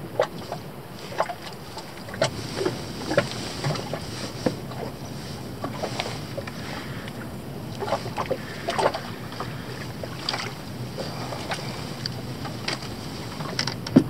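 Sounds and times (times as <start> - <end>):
waves lapping against boat hull: 0.0 - 14.0.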